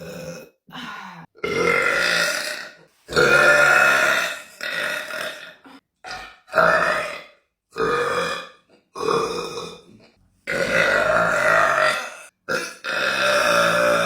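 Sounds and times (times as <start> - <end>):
woman belching loudly: 0.0 - 9.8, 10.5 - 14.0.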